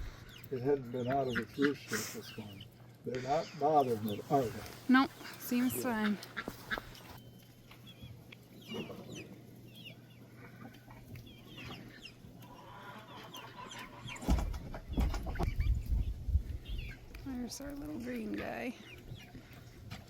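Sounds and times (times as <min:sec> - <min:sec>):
chickens clucking and peeping: 0:00.0 - 0:20.0.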